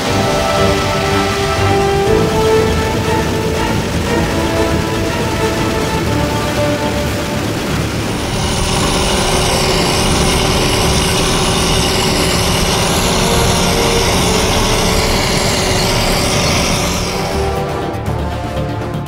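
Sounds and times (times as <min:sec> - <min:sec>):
farm machinery engine driving: 0:00.0 - 0:18.0.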